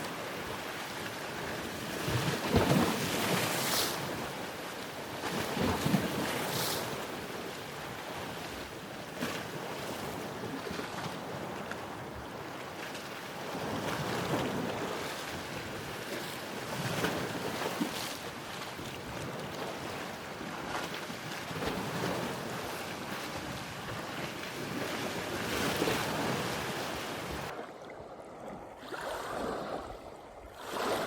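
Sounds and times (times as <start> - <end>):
ocean waves breaking: 0.0 - 7.3, 13.4 - 31.0.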